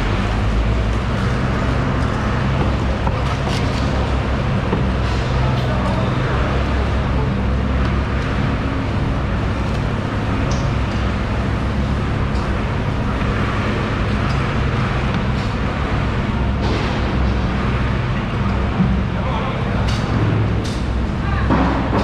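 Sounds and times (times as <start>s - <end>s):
low engine-like hum: 0.0s - 22.0s
noisy din: 0.0s - 22.0s.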